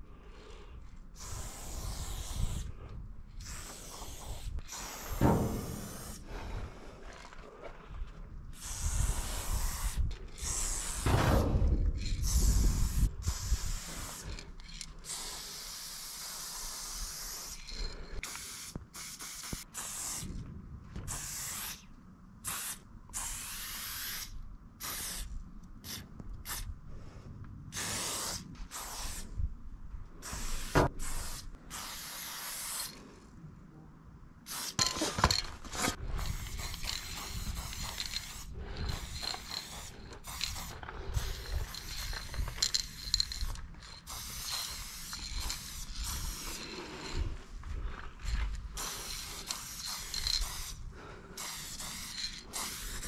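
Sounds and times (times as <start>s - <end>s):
spray paint can hissing: 1.2s - 6.4s, 8.6s - 11.2s, 11.8s - 20.3s, 21.1s - 26.7s, 27.7s - 29.3s, 30.2s - 33.0s, 34.4s - 35.4s, 36.0s - 47.3s, 48.2s - 50.8s, 51.4s - 53.0s.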